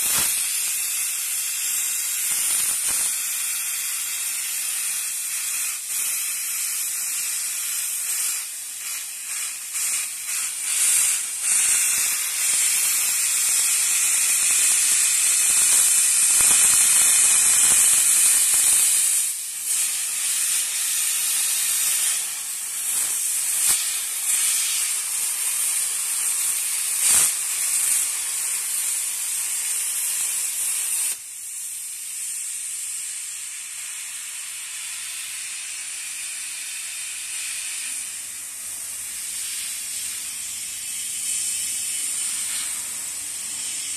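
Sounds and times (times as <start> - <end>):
plasma torch hissing: 0.0 - 43.9.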